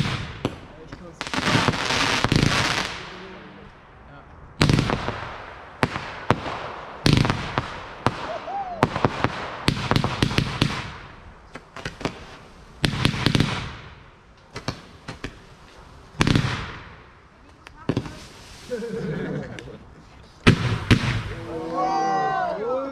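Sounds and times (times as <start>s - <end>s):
fireworks crackle: 0.0s - 3.8s, 4.6s - 19.4s, 20.3s - 22.5s
fireworks bangs: 0.0s - 3.9s, 4.6s - 18.9s, 20.4s - 22.9s.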